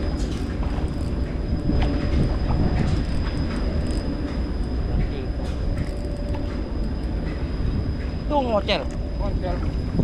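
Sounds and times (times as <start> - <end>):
high-pitched whine: 0.0 - 10.0.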